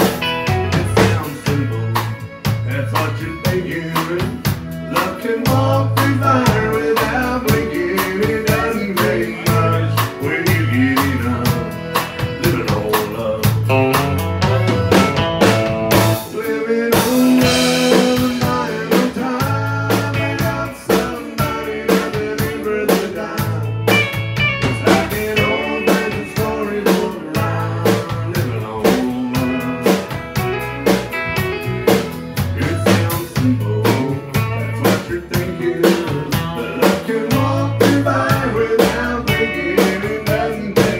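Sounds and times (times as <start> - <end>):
live country band playing: 0.0 - 40.9.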